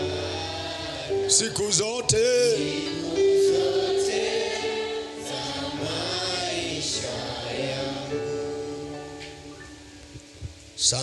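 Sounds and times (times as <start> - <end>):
congregation singing: 0.0 - 10.1.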